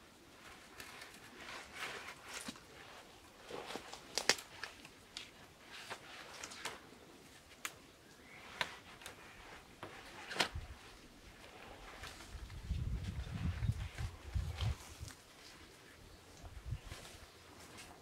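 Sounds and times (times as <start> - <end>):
cord clicking and creaking on bark: 0.4 - 18.0.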